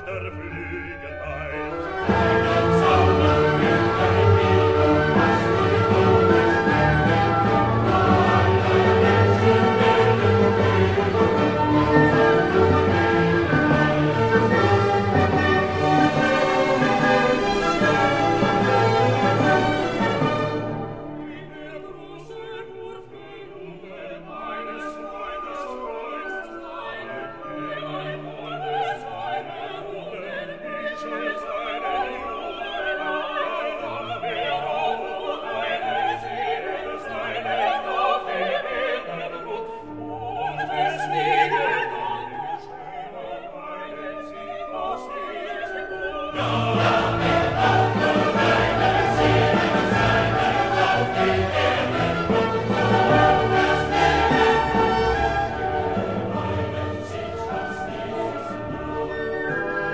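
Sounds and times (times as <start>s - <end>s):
operatic singing: 0.0s - 59.9s
orchestral strings: 0.0s - 59.9s.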